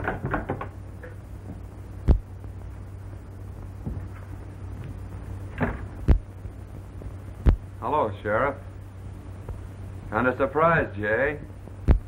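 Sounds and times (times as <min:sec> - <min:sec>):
film soundtrack hum: 0:00.0 - 0:12.0.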